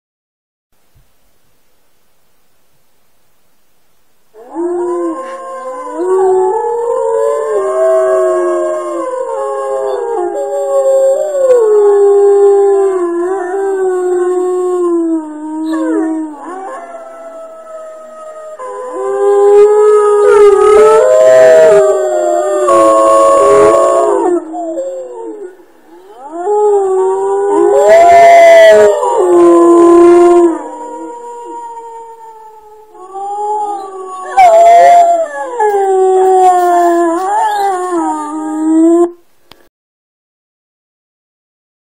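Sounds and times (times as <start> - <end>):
wolves howling: 4.4 - 39.2.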